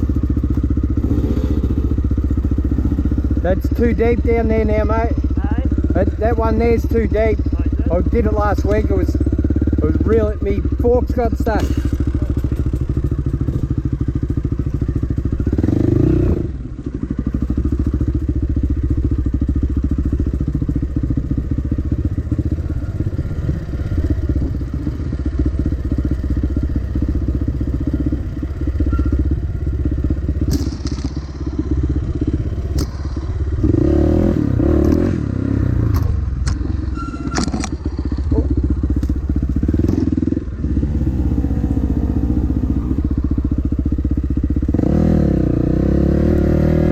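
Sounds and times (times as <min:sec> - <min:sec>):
dirt bike engine: 0:00.0 - 0:46.9.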